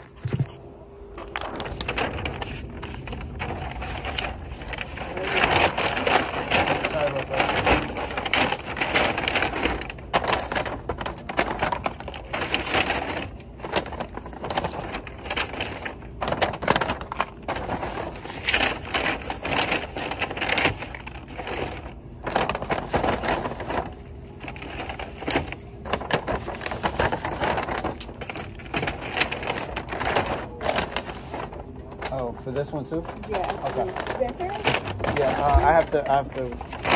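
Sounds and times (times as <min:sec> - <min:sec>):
paper bags rustling and crinkling: 0:00.0 - 0:36.9.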